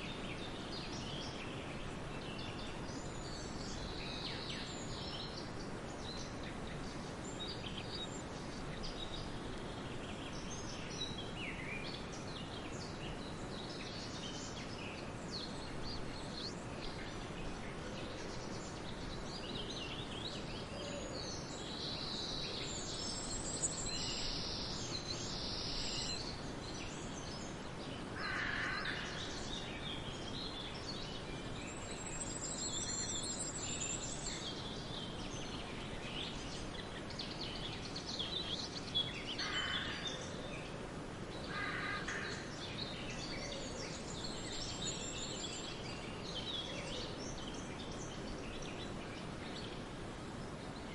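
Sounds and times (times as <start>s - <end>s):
steady background noise: 0.0s - 50.9s.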